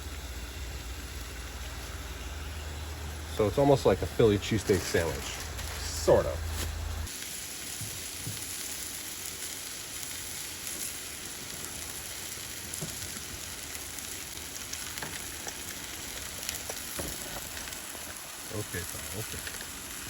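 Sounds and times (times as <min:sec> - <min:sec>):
steak sizzling in a skillet: 0:00.0 - 0:20.0.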